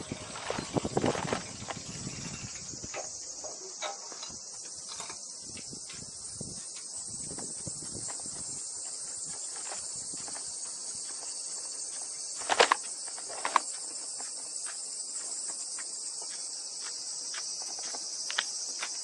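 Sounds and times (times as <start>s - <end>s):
high-pitched insect chorus: 0.0s - 19.0s
faint scattered ticks: 0.1s - 19.0s.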